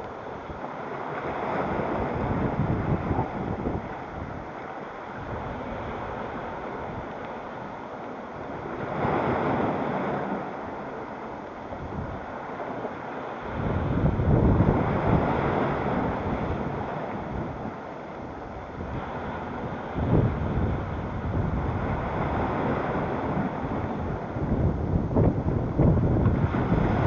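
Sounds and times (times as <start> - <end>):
wind buffeting microphone: 0.0 - 7.7, 8.4 - 27.0
sea surf washing on shore: 0.0 - 27.0.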